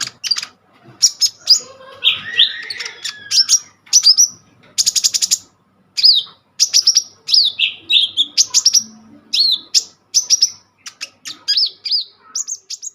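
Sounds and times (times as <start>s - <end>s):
songbird singing: 0.0s - 12.9s.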